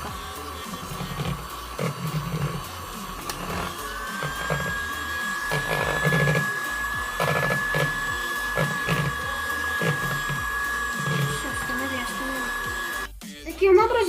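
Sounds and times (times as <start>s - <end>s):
electric hand mixer whining: 0.0s - 13.2s.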